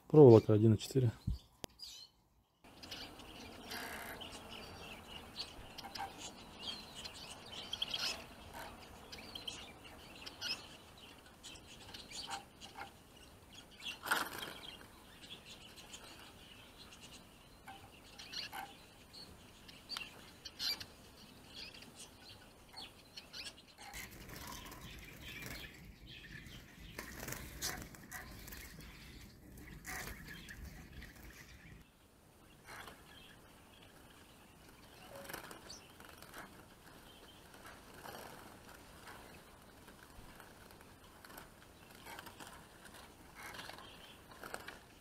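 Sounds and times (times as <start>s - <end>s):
small songbirds chirping: 0.0s - 45.0s
birds fluttering: 2.7s - 45.0s.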